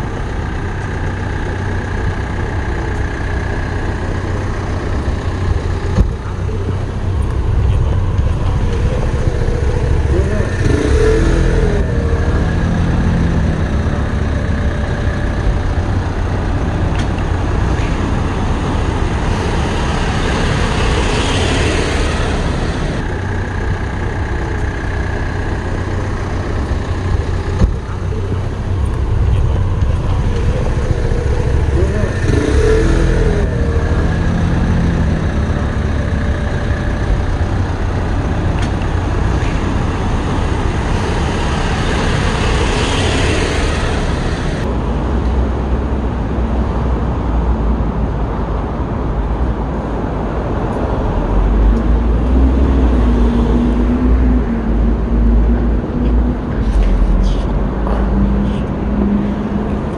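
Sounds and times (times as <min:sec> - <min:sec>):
cars passing: 0:00.0 - 0:59.9
low rumble of traffic: 0:00.0 - 0:59.9.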